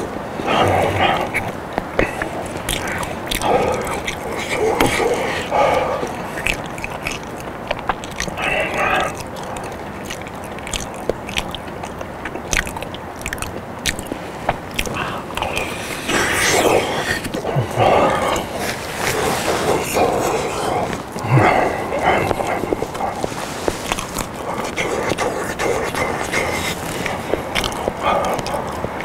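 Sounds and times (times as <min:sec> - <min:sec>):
mushy chewing and lip smacking: 0:00.0 - 0:29.0
wet mouth clicks: 0:00.0 - 0:29.0.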